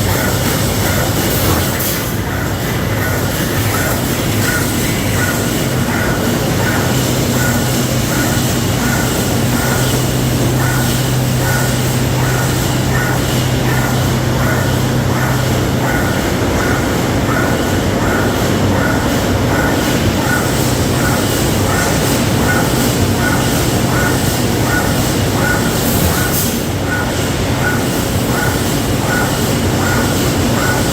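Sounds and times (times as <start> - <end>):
welding machine rhythmic beat: 0.0 - 30.9.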